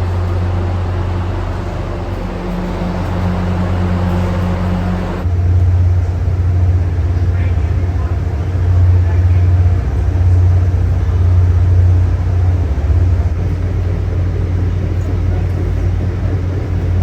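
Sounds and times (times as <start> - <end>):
diesel train rumble: 0.0 - 17.0.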